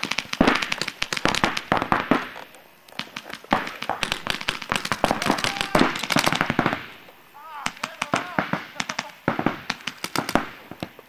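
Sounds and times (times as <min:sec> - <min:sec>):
paintball markers firing: 0:00.0 - 0:11.0.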